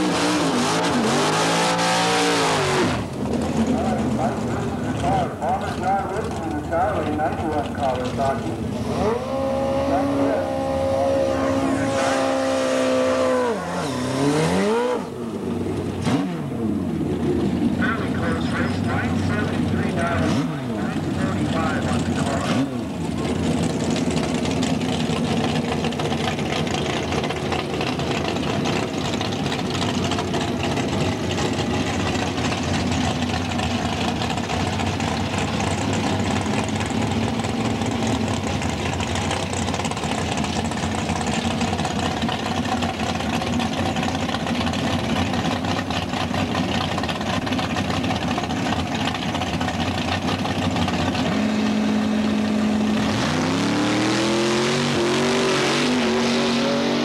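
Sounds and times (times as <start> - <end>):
race car engine idling: 3.0 - 12.0, 15.0 - 53.1.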